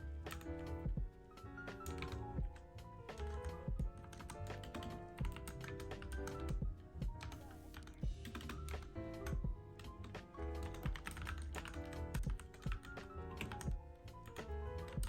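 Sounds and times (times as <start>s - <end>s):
background music: 0.0s - 15.0s
mechanical keyboard typing: 0.3s - 0.8s, 1.6s - 15.0s.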